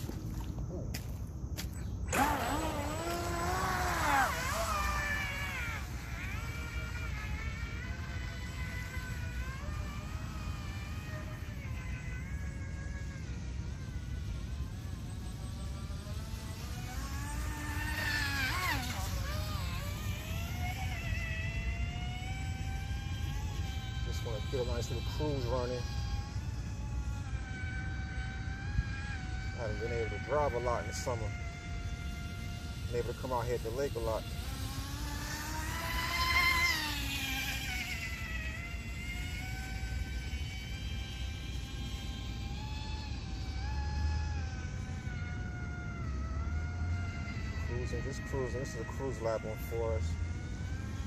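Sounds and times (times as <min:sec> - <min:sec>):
electric boat motor whining: 0:00.0 - 0:51.0.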